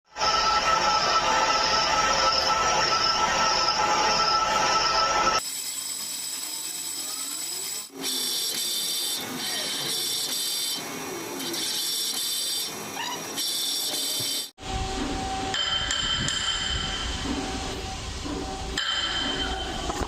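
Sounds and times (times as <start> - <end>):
metal lathe whining: 0.1 - 20.0.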